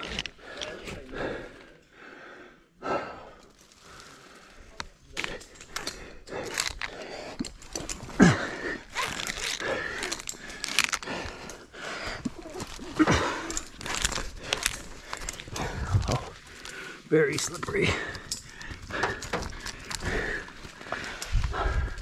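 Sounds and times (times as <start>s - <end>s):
climbing gear clicking and knocking: 0.0s - 1.1s, 5.2s - 22.0s
climber grunting: 0.0s - 4.2s, 5.2s - 22.0s
climber breathing hard: 0.0s - 22.0s.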